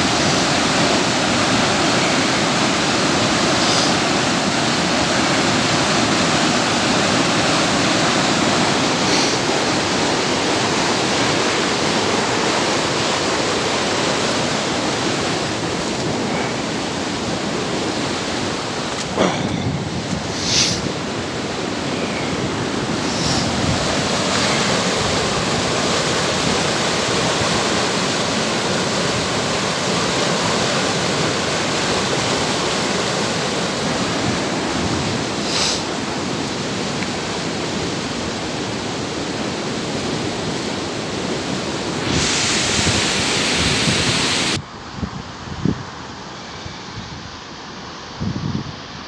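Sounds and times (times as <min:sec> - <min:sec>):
water rushing over weir: 0:00.0 - 0:44.6.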